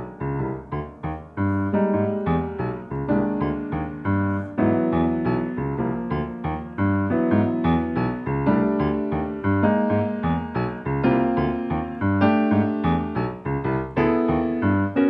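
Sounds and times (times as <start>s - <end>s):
solo piano playing: 0.0s - 15.0s.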